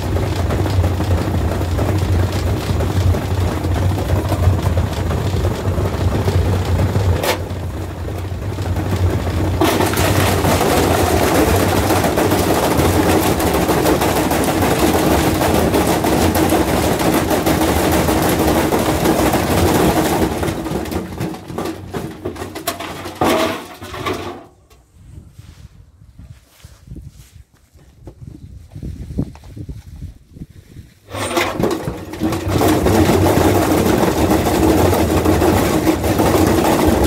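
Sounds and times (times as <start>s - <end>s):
washing machine rattling and banging: 0.0s - 24.6s, 31.1s - 37.0s.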